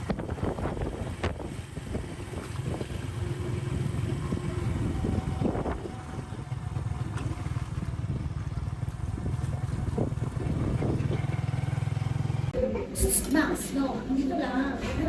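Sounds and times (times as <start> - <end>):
engine running steadily: 0.0 - 12.6
wind and road noise: 0.0 - 13.8.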